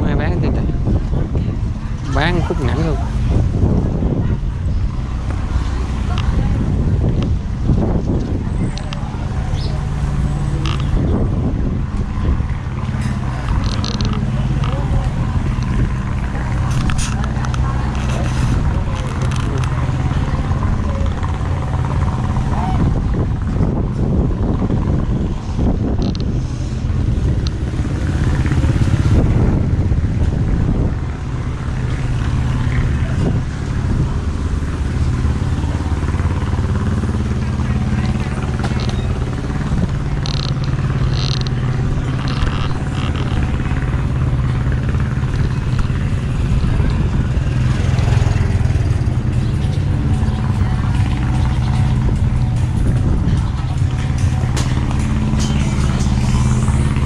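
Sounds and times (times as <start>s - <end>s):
chatter of voices: 0.0s - 57.0s
motorbike engine running: 0.0s - 57.0s.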